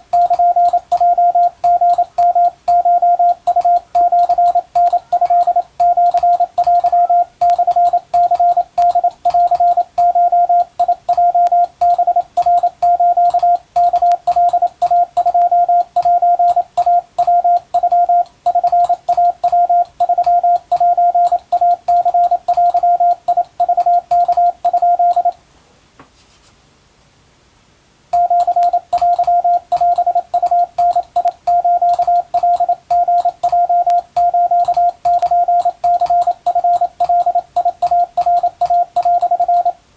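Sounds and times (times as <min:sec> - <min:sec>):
keying clicks: 0:00.0 - 0:25.4, 0:28.2 - 0:39.8
morse code tone: 0:00.0 - 0:25.4, 0:28.2 - 0:39.8.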